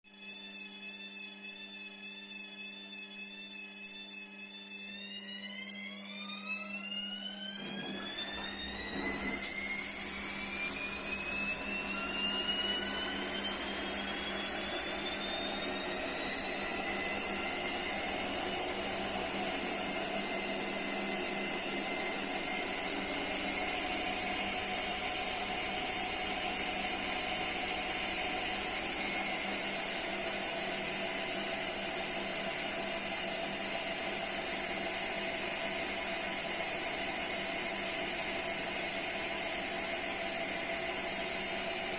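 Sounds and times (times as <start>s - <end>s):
washing machine motor whining: 0.1s - 41.9s
constant mechanical hum: 0.2s - 36.0s.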